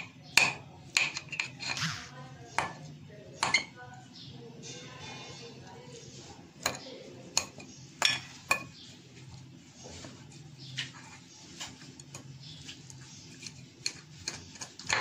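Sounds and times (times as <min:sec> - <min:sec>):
fork mashing potatoes: 0:00.0 - 0:03.7, 0:05.2 - 0:15.0.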